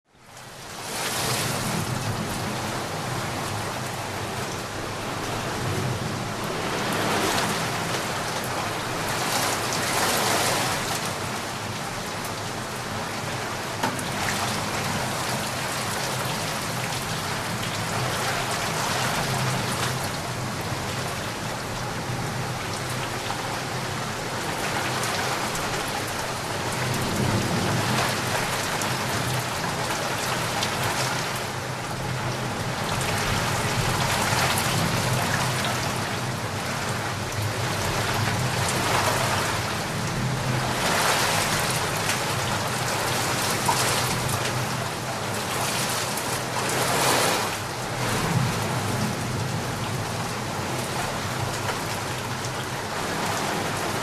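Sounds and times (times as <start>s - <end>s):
heavy rain pattering: 0.1s - 54.0s.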